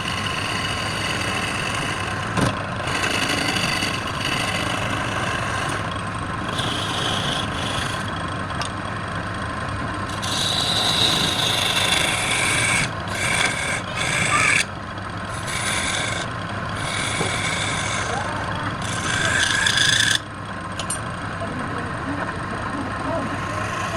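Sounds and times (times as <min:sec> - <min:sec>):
wood lathe tool scraping: 0:00.0 - 0:08.7, 0:09.6 - 0:21.0, 0:22.3 - 0:23.9.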